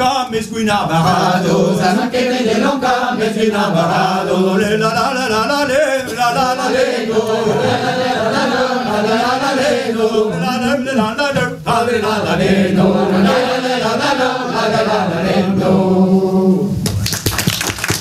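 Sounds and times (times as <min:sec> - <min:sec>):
group singing a cappella: 0:00.0 - 0:16.9.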